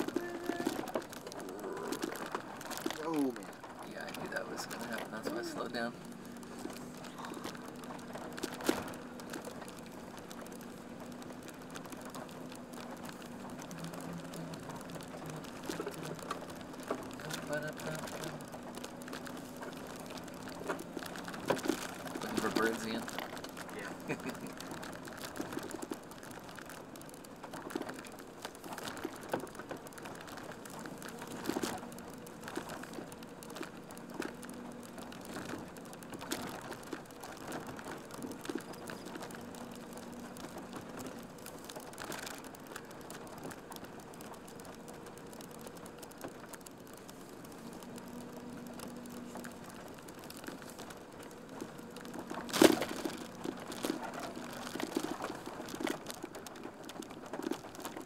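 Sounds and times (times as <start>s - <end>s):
small clicks and rattles: 0.0s - 58.0s
van engine hum: 0.0s - 58.0s.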